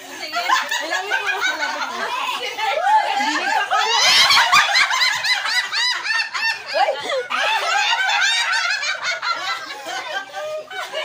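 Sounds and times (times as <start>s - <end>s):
women laughing loudly: 0.2s - 11.0s.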